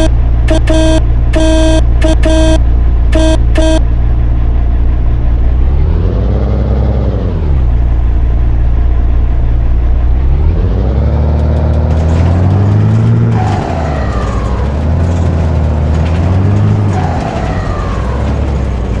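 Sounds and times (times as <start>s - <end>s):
truck engine accelerating: 0.0s - 19.0s.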